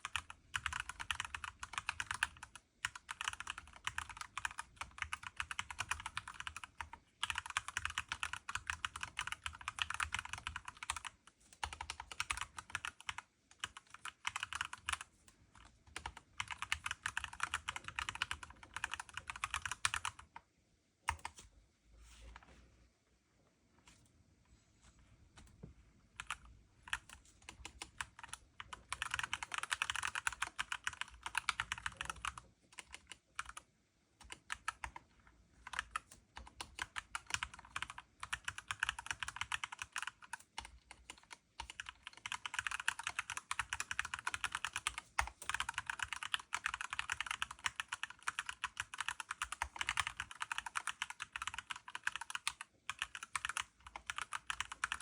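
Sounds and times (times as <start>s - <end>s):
mechanical keyboard typing: 0.0s - 20.4s, 21.1s - 21.4s, 26.2s - 55.0s.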